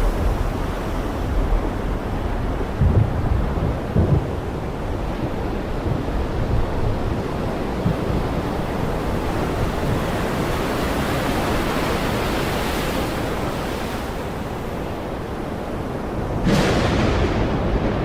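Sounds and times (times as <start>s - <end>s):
heavy rain pouring: 0.0s - 12.6s, 15.9s - 18.0s.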